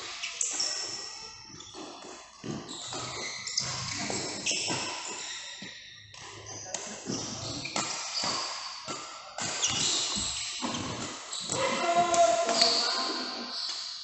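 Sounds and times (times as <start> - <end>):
shoes squeaking on court: 0.0 - 14.0.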